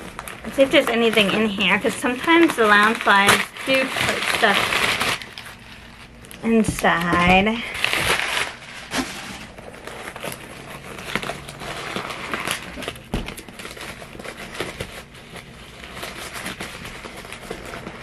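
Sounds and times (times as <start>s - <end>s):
paper and plastic wrap crinkling: 0.0s - 18.0s.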